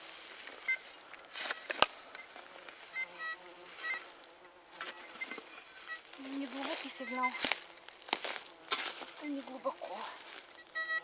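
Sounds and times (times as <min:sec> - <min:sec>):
flies buzzing: 0:00.0 - 0:11.0.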